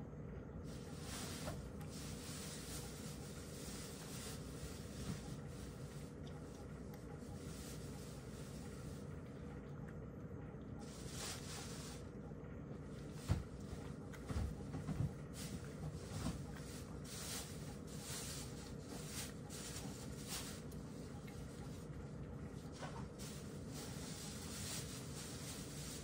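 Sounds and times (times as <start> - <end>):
cat chewing and licking: 0.6 - 26.0.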